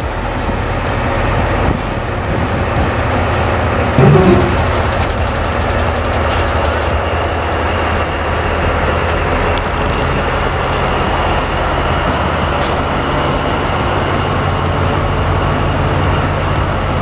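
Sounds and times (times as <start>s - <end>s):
diesel locomotive engine drone: 0.0s - 17.0s
rail noise: 0.0s - 17.0s.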